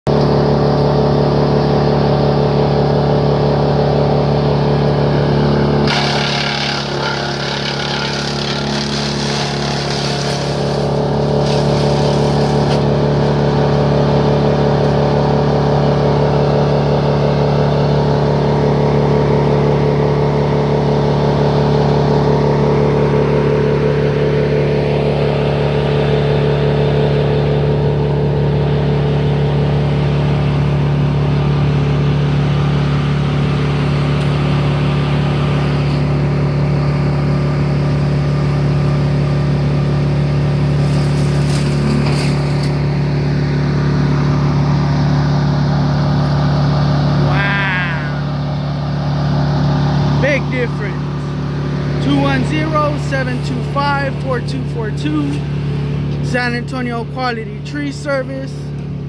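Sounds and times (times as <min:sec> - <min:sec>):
heavy machine engine running: 0:00.1 - 0:59.0.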